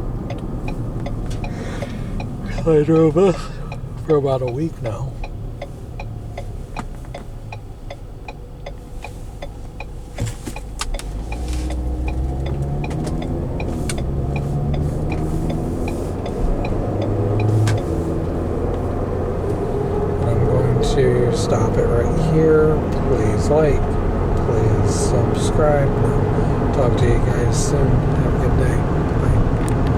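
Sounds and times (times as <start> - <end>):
car engine and road rumble: 0.0 - 29.9
turn signal ticking: 0.0 - 29.9.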